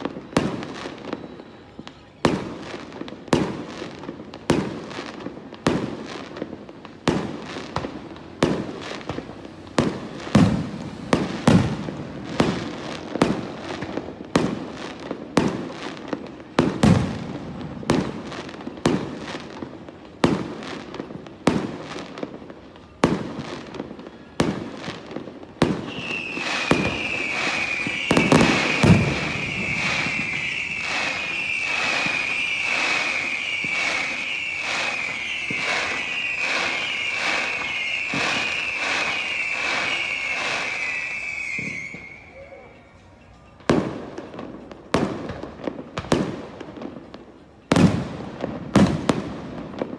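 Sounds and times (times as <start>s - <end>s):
fireworks bangs: 0.0s - 49.9s
high whistling firework: 0.0s - 49.9s.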